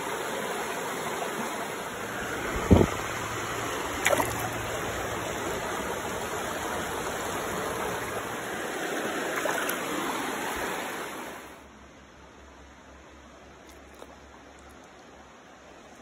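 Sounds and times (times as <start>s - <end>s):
stream burbling over stones: 0.0s - 11.6s, 13.2s - 16.0s.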